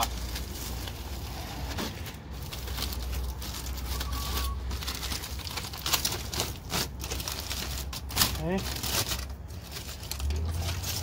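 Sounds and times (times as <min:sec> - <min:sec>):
aluminum foil crinkling: 0:00.0 - 0:11.0.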